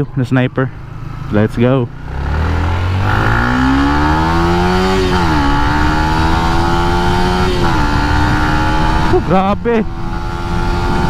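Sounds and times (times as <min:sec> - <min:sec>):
motorcycle engine accelerating: 0:00.6 - 0:11.0.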